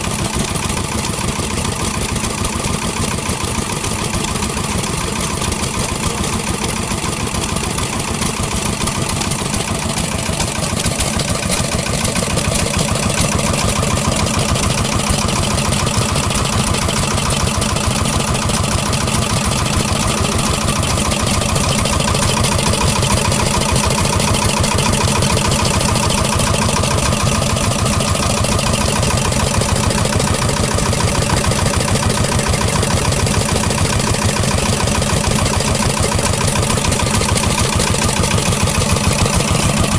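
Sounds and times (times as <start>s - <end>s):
engine running with fast firing beat: 0.0s - 39.9s.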